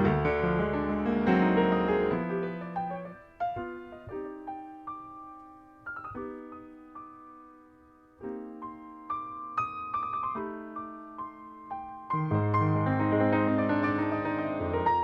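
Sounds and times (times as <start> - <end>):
piano playing soft chords: 0.0 - 15.0.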